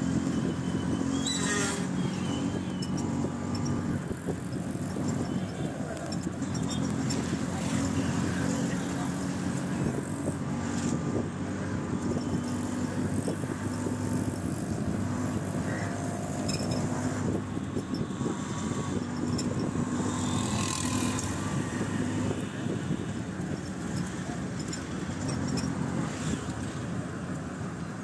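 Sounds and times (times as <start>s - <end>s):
vehicle engine running: 0.0s - 26.8s
road and traffic noise: 0.0s - 28.0s.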